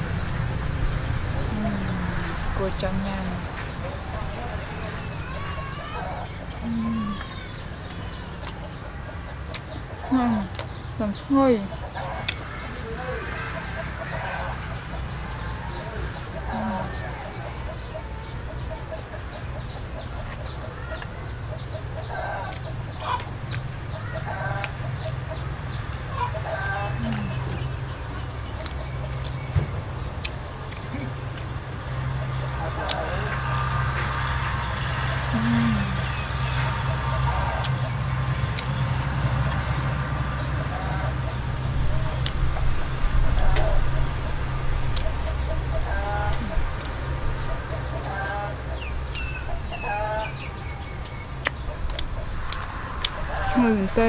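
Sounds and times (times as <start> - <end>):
chickens clucking: 1.3 - 54.0
steady low rumble: 6.3 - 54.0.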